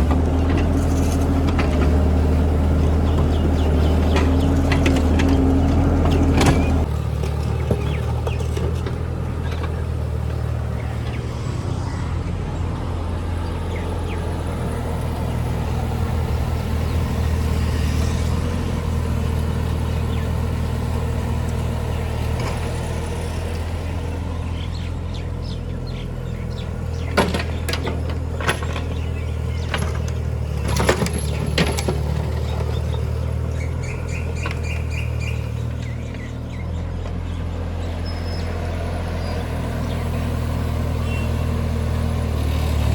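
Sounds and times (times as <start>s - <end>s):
digger engine running: 0.0s - 42.9s.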